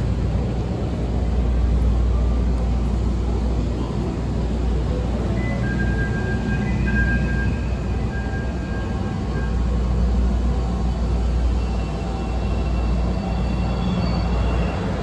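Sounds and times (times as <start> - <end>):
faint high whine: 0.0 - 15.0
train rumble and hum: 0.0 - 15.0.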